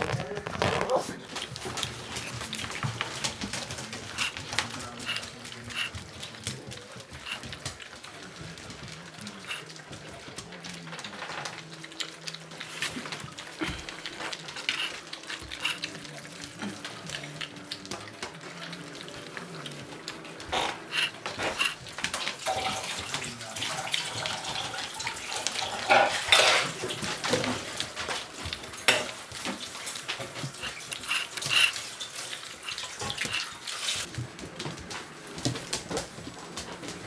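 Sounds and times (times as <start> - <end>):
puppies crunching dry kibble: 0.0 - 37.0.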